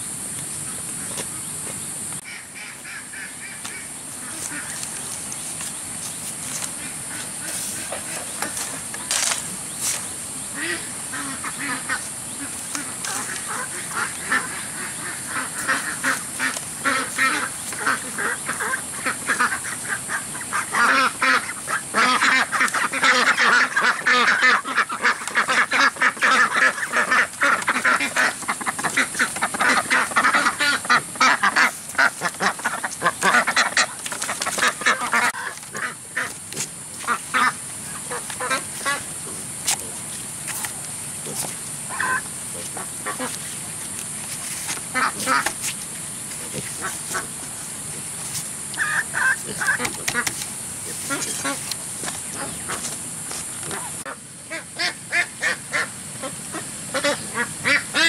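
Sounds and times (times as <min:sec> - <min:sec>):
farm animals calling: 0:00.7 - 0:58.0.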